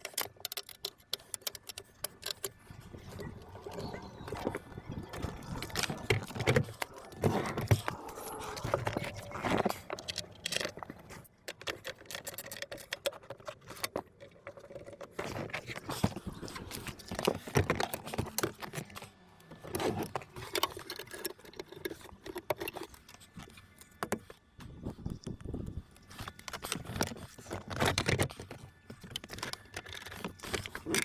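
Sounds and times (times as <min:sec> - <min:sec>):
small plastic parts clicking: 0:00.0 - 0:31.0.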